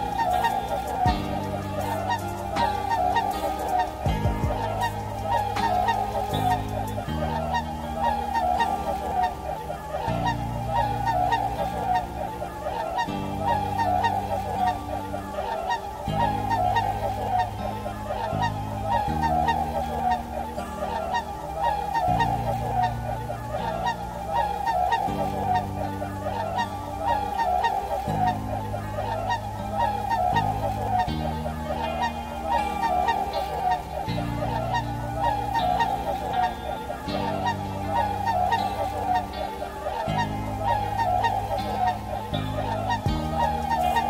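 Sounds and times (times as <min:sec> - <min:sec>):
music with low chords: 0:00.0 - 0:44.0
swans calling: 0:00.0 - 0:44.0.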